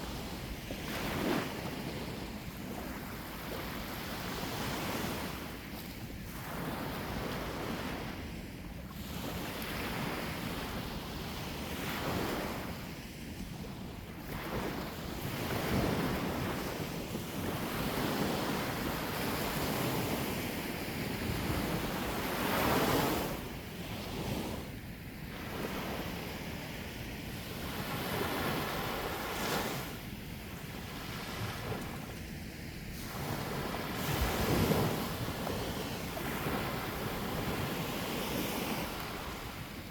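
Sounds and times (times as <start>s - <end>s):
sea waves washing onto shore: 0.0s - 39.9s
wind on microphone: 0.0s - 39.9s.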